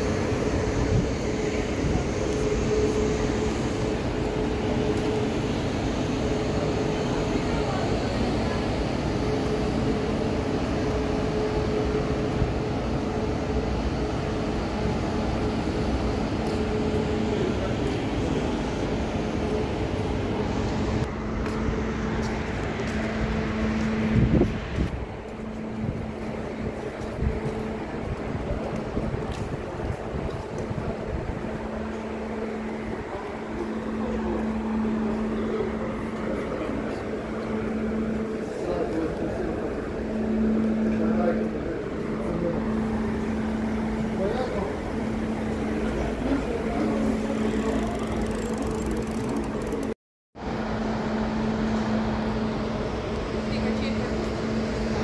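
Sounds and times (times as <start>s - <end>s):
locomotive rumbling: 0.0s - 50.0s.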